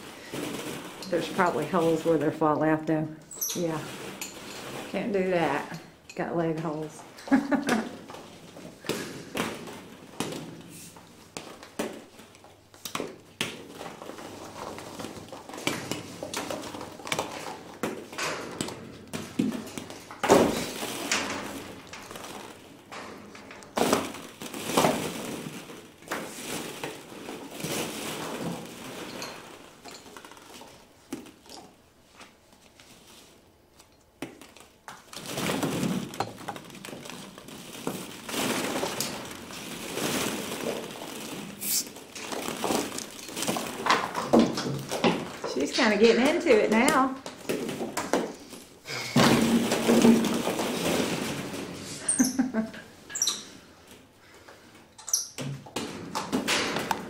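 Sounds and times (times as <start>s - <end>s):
plastic balls clattering: 0.0s - 57.0s.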